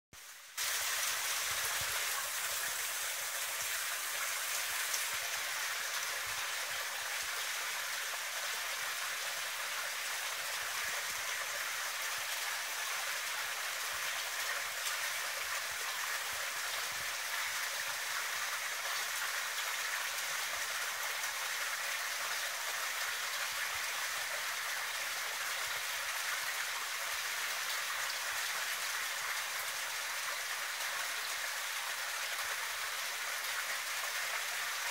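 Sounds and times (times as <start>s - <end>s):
water trickling into pond: 0.2s - 34.9s.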